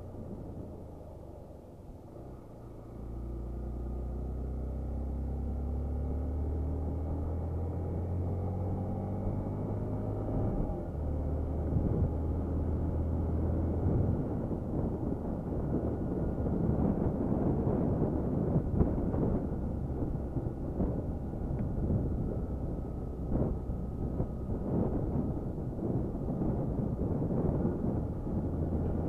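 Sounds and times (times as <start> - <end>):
motorcycle engine accelerating: 2.6 - 29.0.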